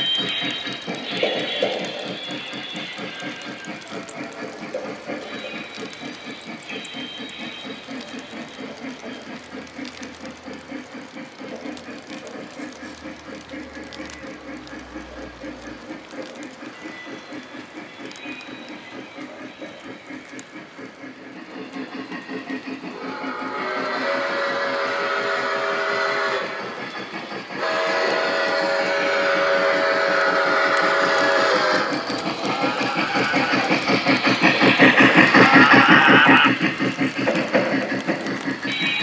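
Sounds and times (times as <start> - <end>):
model train steam chuffing: 0.0 - 39.0
steam hiss: 0.0 - 39.0
train cars rolling on track: 0.0 - 39.0.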